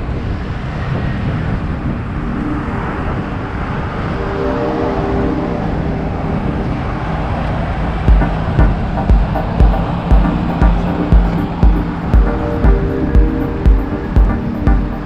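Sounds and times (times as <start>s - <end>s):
bus engine and road rumble: 0.0s - 4.2s, 5.5s - 15.0s
faint steady tones: 0.0s - 15.0s.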